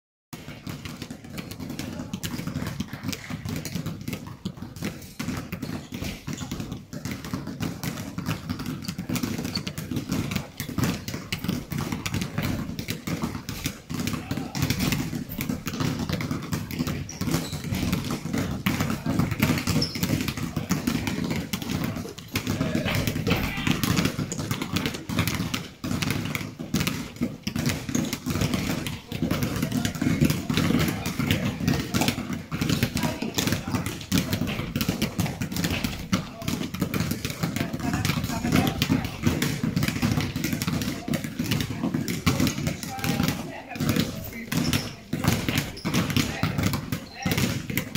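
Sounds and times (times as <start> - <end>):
basketballs dribbling on gym floor: 0.3 - 47.9.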